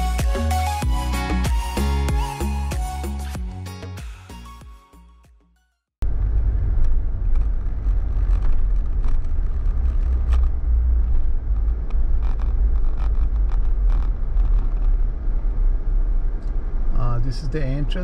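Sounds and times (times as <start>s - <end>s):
vehicle engine and road noise: 0.0s - 3.4s, 6.0s - 18.0s.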